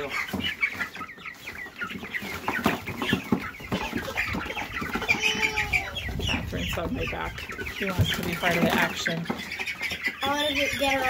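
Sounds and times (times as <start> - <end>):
chicks peeping and cheeping: 0.0 - 11.0.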